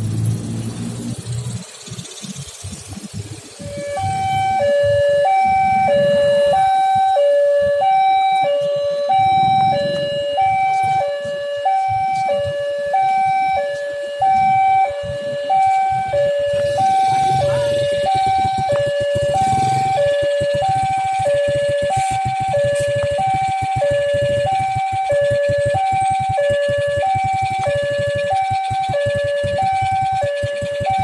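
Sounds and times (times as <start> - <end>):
road traffic rumbling: 0.0 - 31.0
level crossing two-tone alarm: 3.6 - 31.0.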